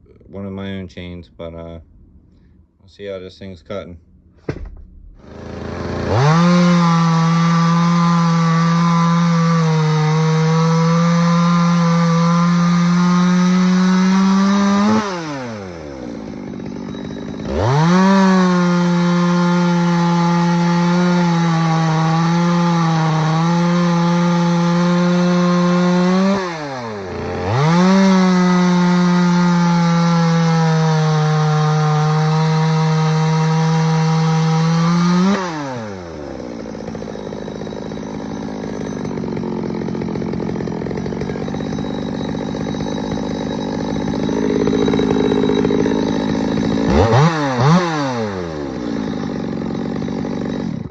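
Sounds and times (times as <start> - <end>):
chainsaw idling: 4.7 - 50.9
chainsaw at full throttle cutting: 5.2 - 50.9.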